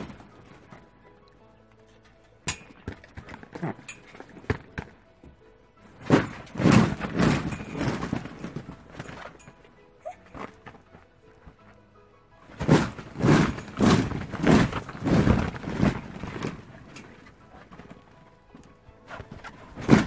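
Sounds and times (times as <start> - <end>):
dog thumping and scuffling: 0.0 - 0.9, 1.8 - 11.7, 12.5 - 20.0.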